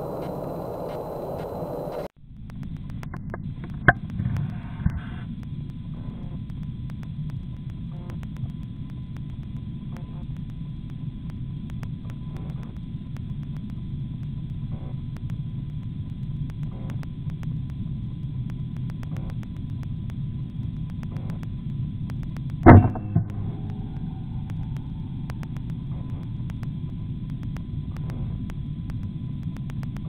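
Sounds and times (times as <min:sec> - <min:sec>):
faint ticks: 0:00.0 - 0:30.0
low rumbling hum: 0:00.0 - 0:30.0.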